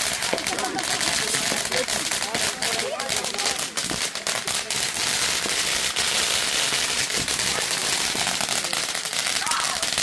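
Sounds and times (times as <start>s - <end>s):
fireworks crackling and hissing: 0.0s - 10.0s.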